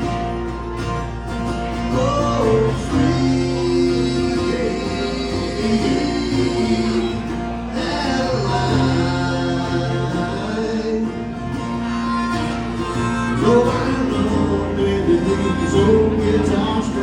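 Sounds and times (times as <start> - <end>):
country band playing: 0.0 - 17.0
guitar: 0.0 - 17.0.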